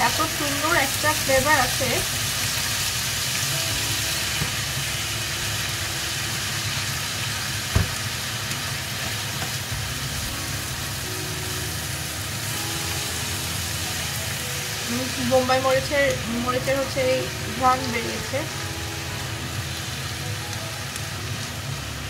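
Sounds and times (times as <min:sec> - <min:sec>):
mango sizzling in oil: 0:00.0 - 0:22.0.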